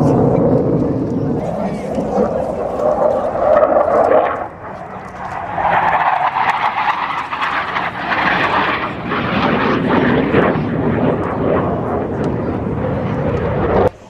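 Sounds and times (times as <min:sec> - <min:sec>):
jet passing overhead: 0:00.0 - 0:14.0.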